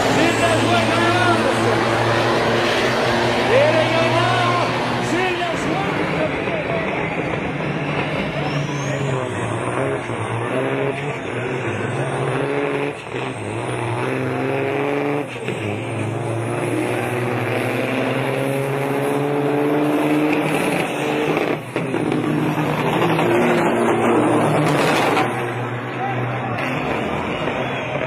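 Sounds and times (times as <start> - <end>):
diesel truck accelerating: 0.0 - 28.0.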